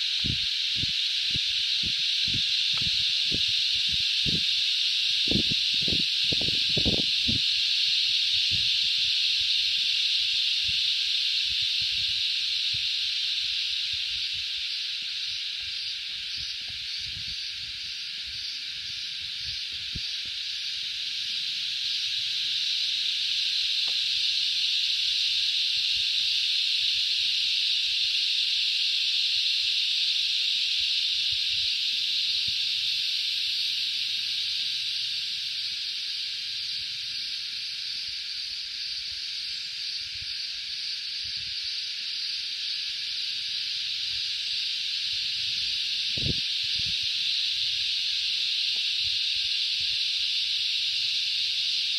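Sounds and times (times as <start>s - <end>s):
cicadas buzzing: 0.0s - 51.9s.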